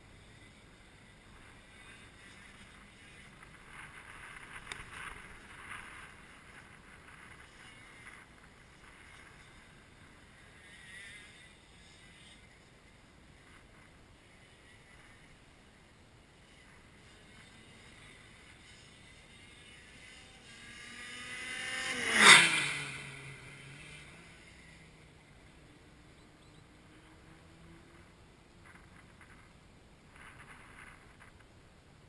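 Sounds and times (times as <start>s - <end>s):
kart engine passing by: 0.1s - 29.5s.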